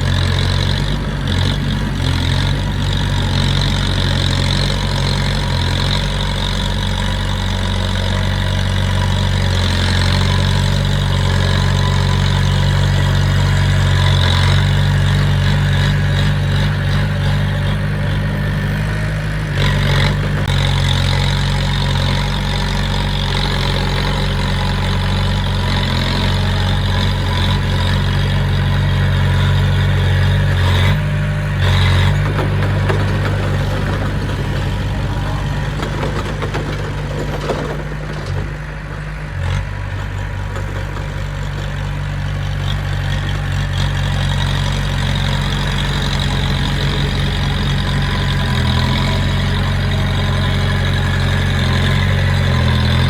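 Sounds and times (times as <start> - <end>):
heavy machine diesel engine: 0.0 - 53.0.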